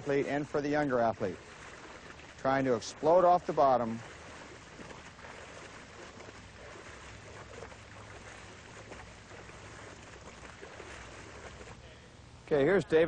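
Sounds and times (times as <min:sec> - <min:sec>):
pool water sloshing and splashing: 0:00.0 - 0:12.4
steady low hum: 0:00.0 - 0:13.0.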